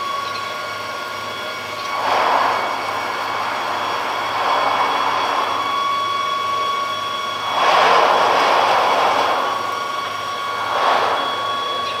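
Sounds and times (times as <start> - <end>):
ship machinery hum: 0.9 - 12.0
rushing noise: 1.5 - 12.0.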